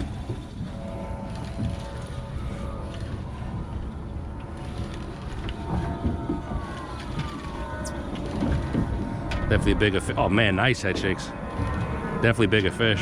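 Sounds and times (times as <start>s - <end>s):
boat engine running low: 0.0s - 13.0s
wind: 0.0s - 13.0s.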